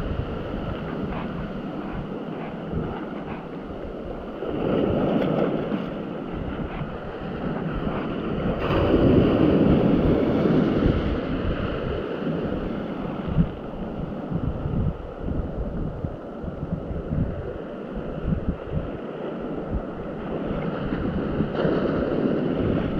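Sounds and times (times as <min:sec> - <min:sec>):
wind and sea wash: 0:00.0 - 0:22.9.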